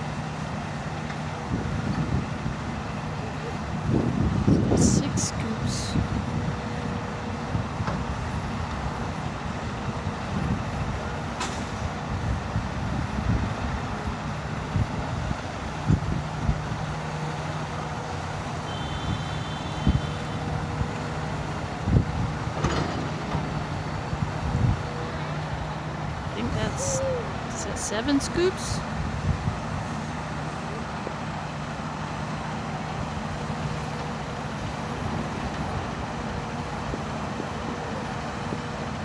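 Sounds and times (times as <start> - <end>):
diesel machinery running: 0.0 - 39.0.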